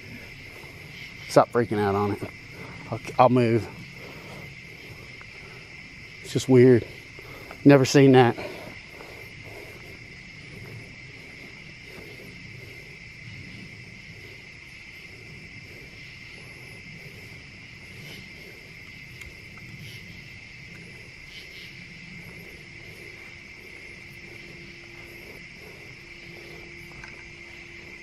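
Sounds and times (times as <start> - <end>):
crickets trilling: 0.0 - 28.0
faint low hum: 0.0 - 28.0
soft low rustle: 0.0 - 28.0.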